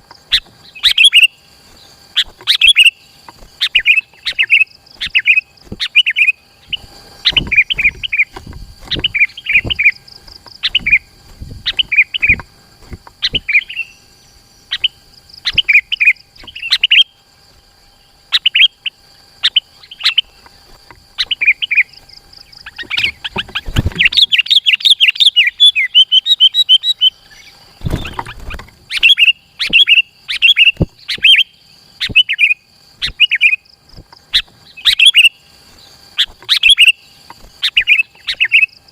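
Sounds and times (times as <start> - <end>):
bulbul singing bubbly chirps: 0.1 - 38.9.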